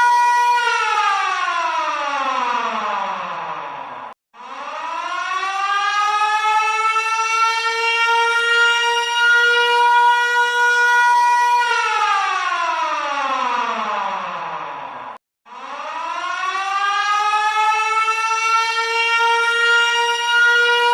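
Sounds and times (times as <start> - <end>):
warning siren wailing: 0.0 - 20.9.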